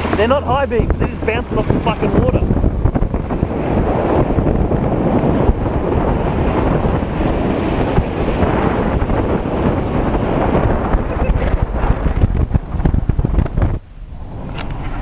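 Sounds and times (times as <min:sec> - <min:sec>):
water rushing against car underside: 0:00.0 - 0:15.0.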